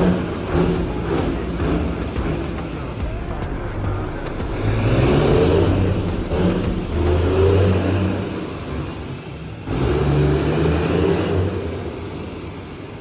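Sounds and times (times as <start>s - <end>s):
heavy truck engine pulling: 0.0s - 12.1s.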